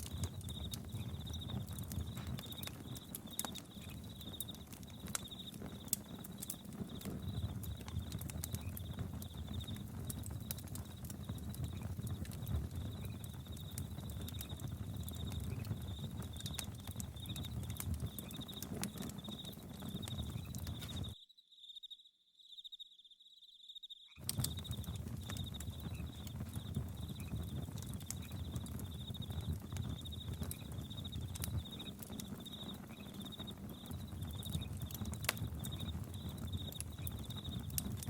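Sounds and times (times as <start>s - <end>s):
crickets chirping: 0.0s - 12.1s, 12.7s - 37.8s
campfire crackling and popping: 0.0s - 21.2s, 24.2s - 38.0s.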